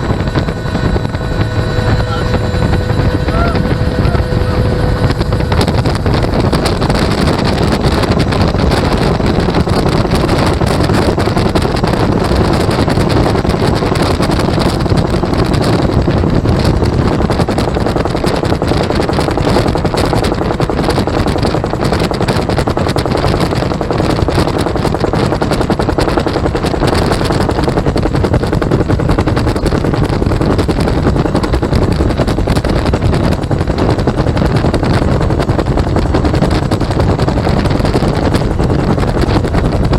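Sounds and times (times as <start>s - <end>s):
helicopter rotor beating: 0.0s - 39.9s
turbine engine running: 0.0s - 39.9s.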